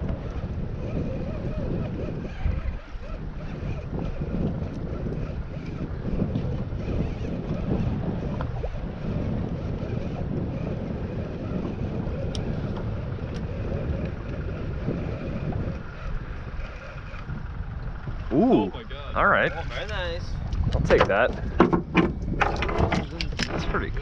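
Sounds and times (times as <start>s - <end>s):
water sloshing against boat hull: 0.0s - 24.0s
wind buffeting microphone: 0.0s - 24.0s.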